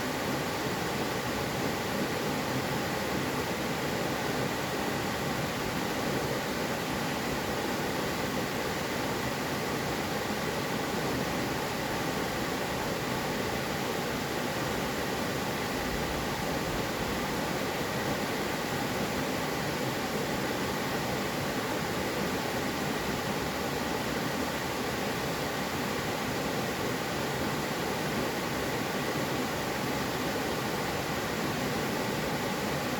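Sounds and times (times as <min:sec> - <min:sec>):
stream water rushing over rocks: 0:00.0 - 0:32.9.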